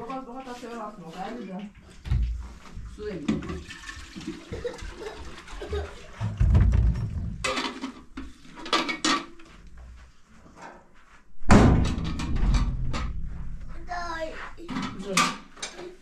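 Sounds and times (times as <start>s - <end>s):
household knocks and clatter: 1.6s - 10.0s, 11.4s - 16.0s.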